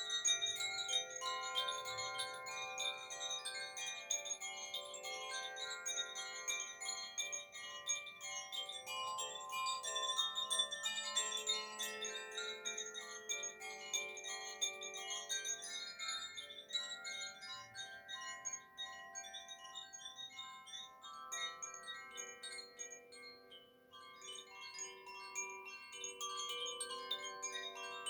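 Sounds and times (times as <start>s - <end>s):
wind chimes ringing: 0.0s - 28.0s.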